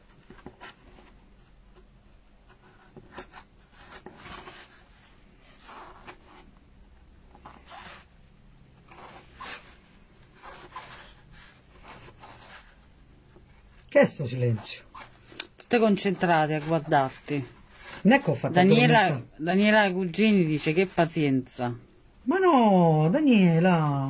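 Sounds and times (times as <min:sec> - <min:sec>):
faint scraping and rubbing: 0:00.0 - 0:22.0.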